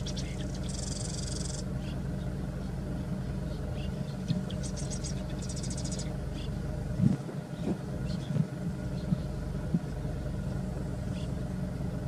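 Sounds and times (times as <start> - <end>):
swallow twittering: 0.0 - 11.6
vehicle engine idling: 0.0 - 12.0.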